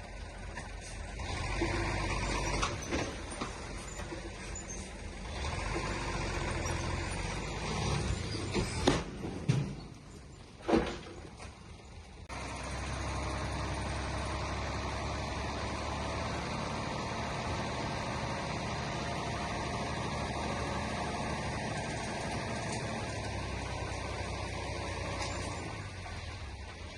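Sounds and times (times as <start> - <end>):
heavy diesel engine running: 0.0 - 10.6, 11.3 - 26.9.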